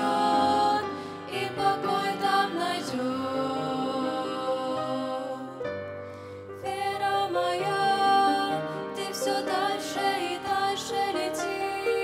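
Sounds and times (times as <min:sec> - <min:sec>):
women singing a hymn: 0:00.0 - 0:05.7, 0:06.6 - 0:12.0.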